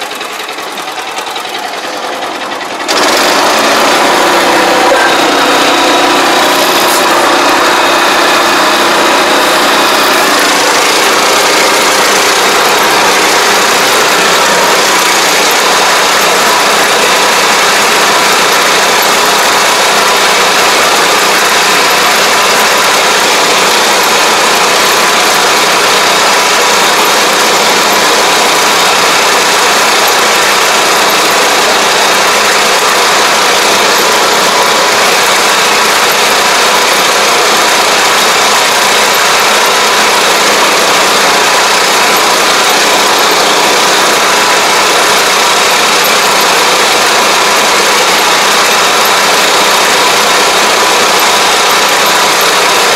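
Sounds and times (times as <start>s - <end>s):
sprayer engine running: 0.0s - 52.9s.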